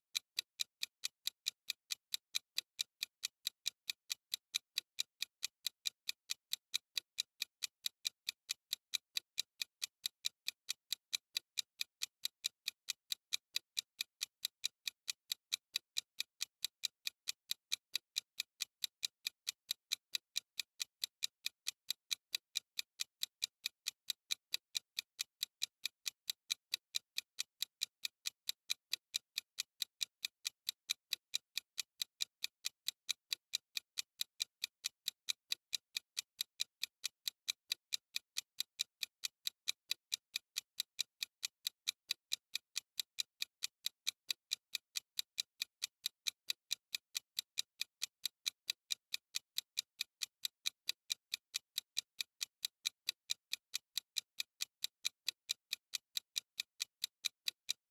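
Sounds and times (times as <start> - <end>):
clock ticking: 0.1 - 57.9.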